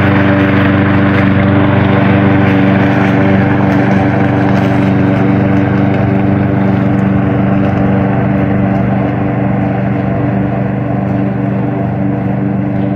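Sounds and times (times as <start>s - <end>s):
lawn mower engine running: 0.0s - 12.9s.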